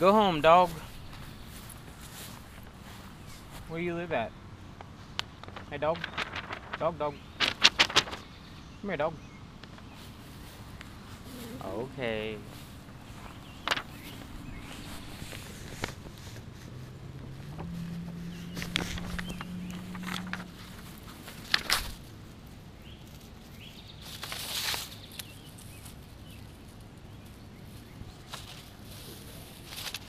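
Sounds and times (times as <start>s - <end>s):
footsteps on grass: 0.0s - 4.2s, 9.7s - 30.0s.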